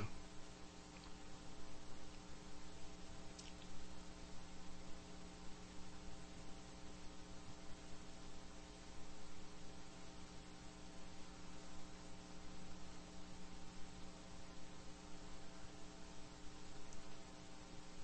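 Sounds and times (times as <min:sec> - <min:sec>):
constant hiss: 0:00.0 - 0:18.0
electrical hum: 0:00.0 - 0:18.0.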